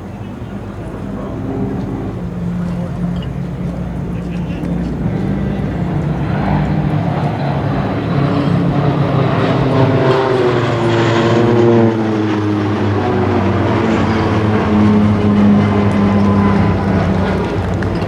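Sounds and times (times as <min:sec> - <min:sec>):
propeller planes flying past: 0:00.0 - 0:18.0.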